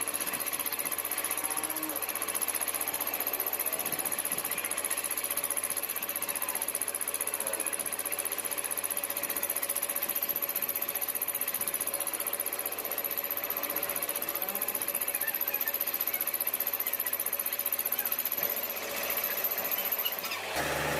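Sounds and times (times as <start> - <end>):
high machine whine: 0.0 - 20.9
metalworking machine chattering: 0.0 - 20.9.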